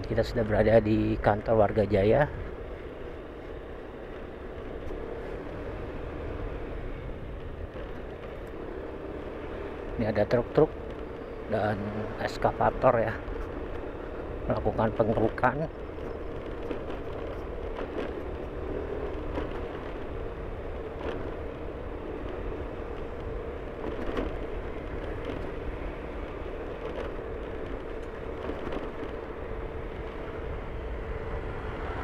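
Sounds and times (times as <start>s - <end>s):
vehicle road noise: 0.0s - 32.0s.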